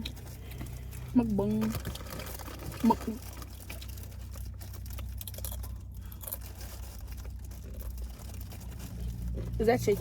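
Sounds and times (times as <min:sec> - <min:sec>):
food wrappers crinkling: 0:00.0 - 0:10.0.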